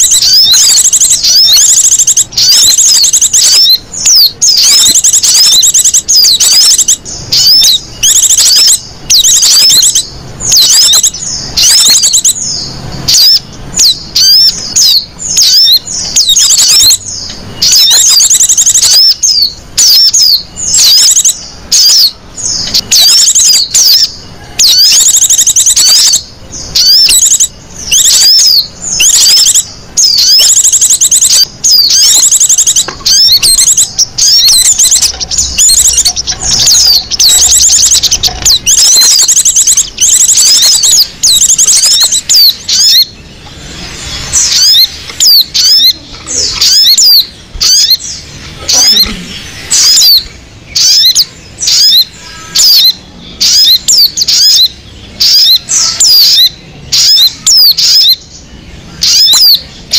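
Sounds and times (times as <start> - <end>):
songbird trills: 0.0 - 59.9.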